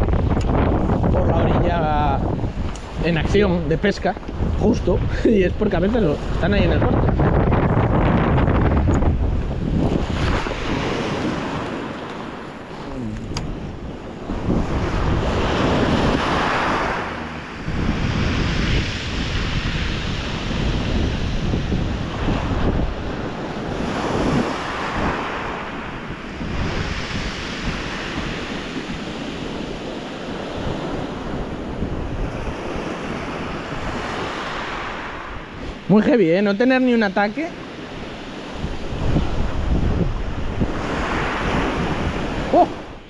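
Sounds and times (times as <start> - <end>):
wind buffeting microphone: 0.0 - 36.2, 36.8 - 43.0
waves breaking on rocks: 8.0 - 43.0.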